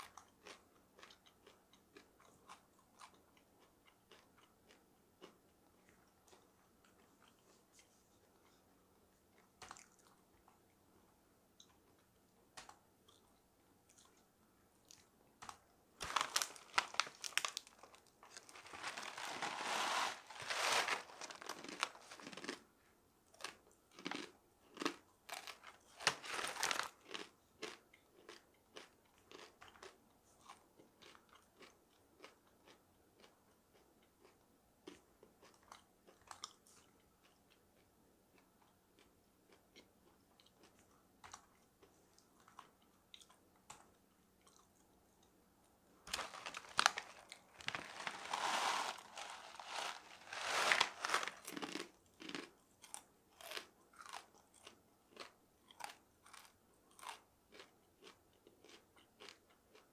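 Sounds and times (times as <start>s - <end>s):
crunching dried food: 0.0s - 8.6s, 14.8s - 22.7s, 23.3s - 44.9s, 46.1s - 59.9s.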